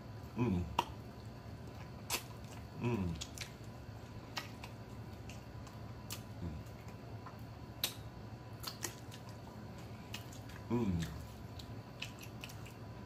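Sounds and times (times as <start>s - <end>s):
man chewing: 0.4s - 13.0s
lip smacks: 0.7s - 12.9s.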